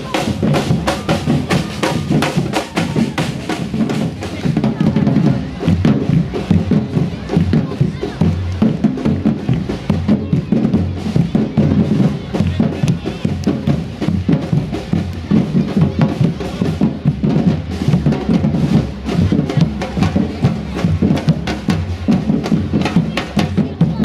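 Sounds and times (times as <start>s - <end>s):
bass drums band playing: 0.0s - 24.0s.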